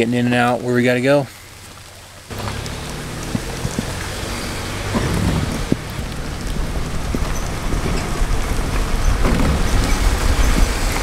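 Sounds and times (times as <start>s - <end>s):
engine and tyres rumble: 0.0s - 11.0s
rain on vehicle: 0.0s - 11.0s.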